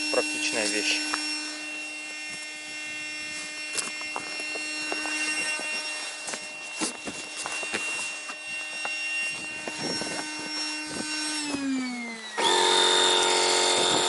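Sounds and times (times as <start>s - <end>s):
electric pump motor hum: 0.0s - 14.0s.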